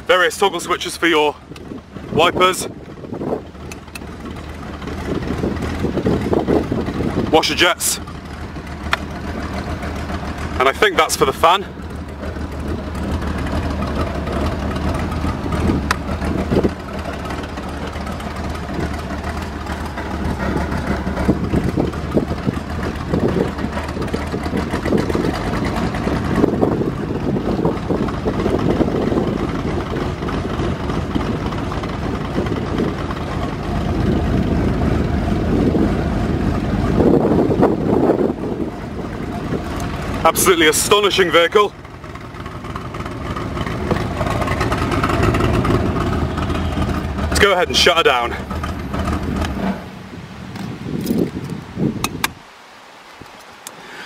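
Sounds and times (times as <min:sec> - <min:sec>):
car engine idling: 0:00.0 - 0:52.4.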